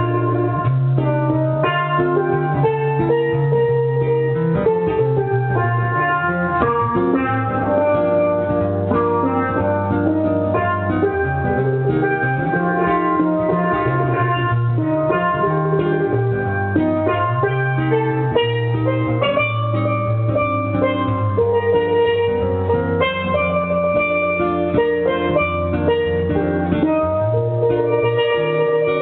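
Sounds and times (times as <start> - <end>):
steelpan melody: 0.0 - 29.0.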